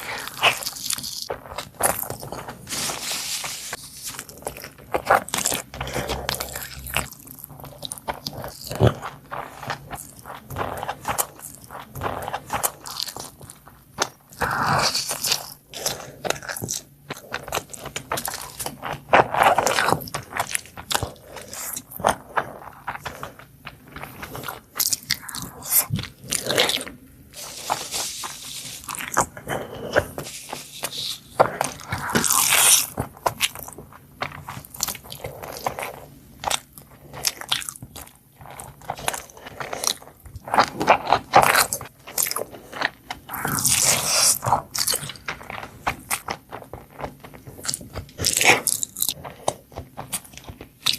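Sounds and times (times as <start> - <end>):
chewing: 0.0 - 50.9
crunching and biting food: 0.0 - 50.9.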